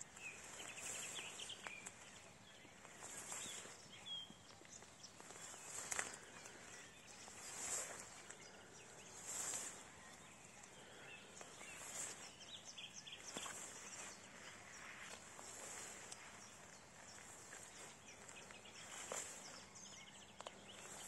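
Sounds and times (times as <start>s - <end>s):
footsteps swishing through grass: 0.0s - 4.3s, 5.2s - 21.0s
birds chirping: 0.0s - 21.0s.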